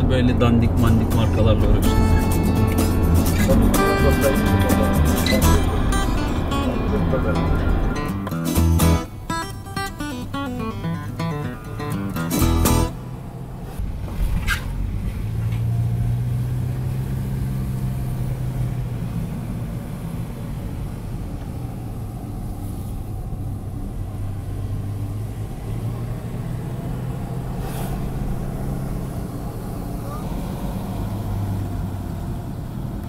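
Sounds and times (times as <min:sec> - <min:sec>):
vehicle engine and road hum: 0:00.0 - 0:33.0.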